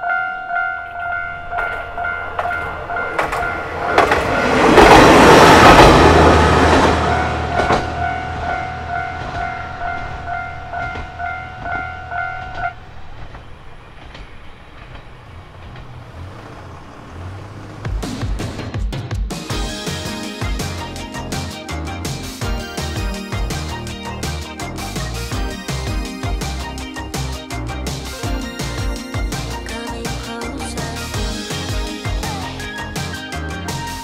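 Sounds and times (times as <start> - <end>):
crossing bell dinging: 0.0 - 14.5, 19.5 - 34.0
diesel train engine rumble: 0.0 - 18.7, 19.5 - 34.0.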